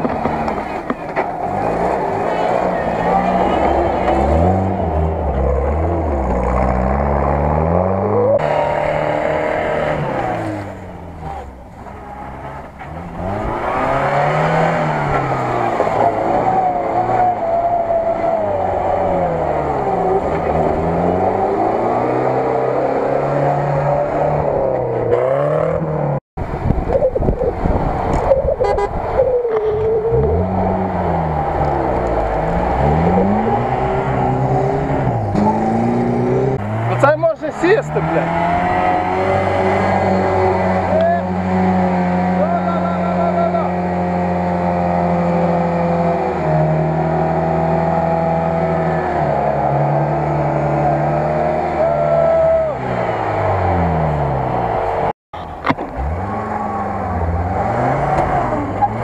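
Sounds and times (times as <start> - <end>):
vehicle engines revving hard: 0.0 - 26.2, 27.6 - 59.0.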